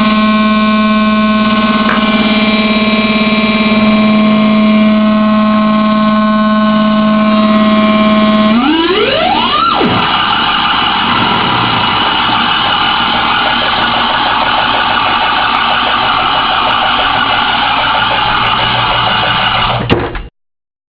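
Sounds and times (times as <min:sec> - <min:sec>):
buzzy synthesizer drone: 0:00.0 - 0:19.9.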